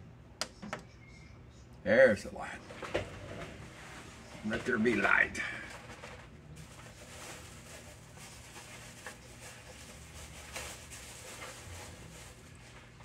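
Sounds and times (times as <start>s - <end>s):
oven fan whirring: 0.0s - 13.0s.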